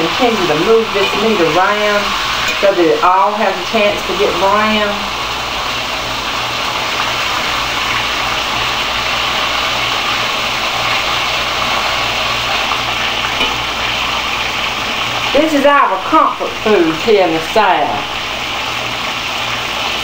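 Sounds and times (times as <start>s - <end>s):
steak sizzling in a skillet: 0.0s - 20.0s.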